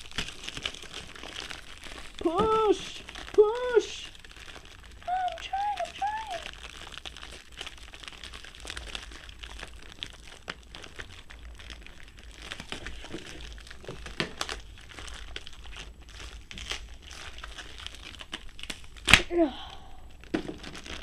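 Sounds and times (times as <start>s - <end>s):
packaging crinkling and rustling: 0.0s - 19.4s, 20.1s - 21.0s.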